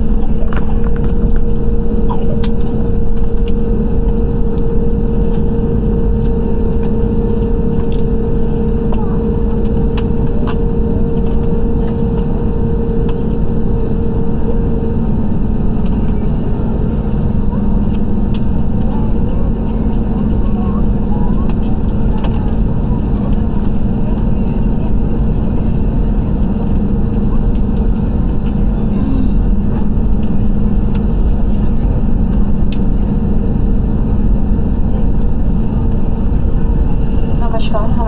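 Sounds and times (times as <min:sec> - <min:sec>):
jet engine rumble in cabin: 0:00.0 - 0:38.0
steady humming tones: 0:00.0 - 0:38.0.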